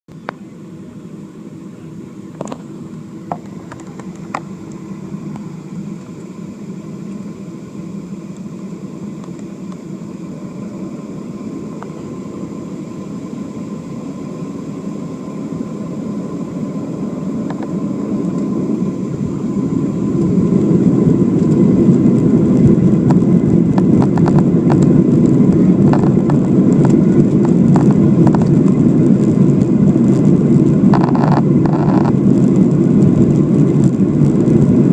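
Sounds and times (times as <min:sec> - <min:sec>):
airliner engines rumbling: 0:00.1 - 0:34.9.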